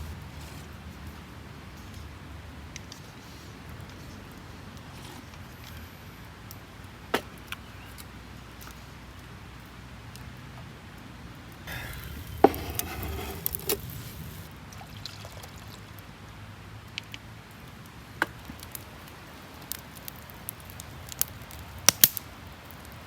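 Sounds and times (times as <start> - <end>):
campfire crackling: 0.0 - 14.6, 16.8 - 23.0.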